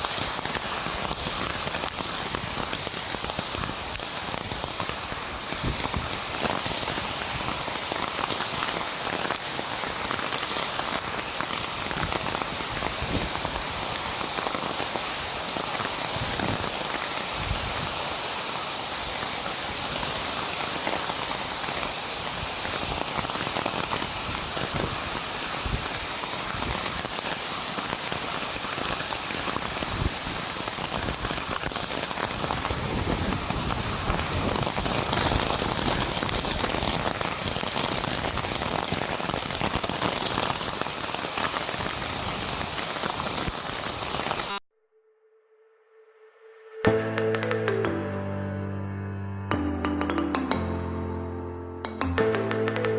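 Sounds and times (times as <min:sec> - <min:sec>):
hail hissing on hard surfaces: 0:00.0 - 0:44.6.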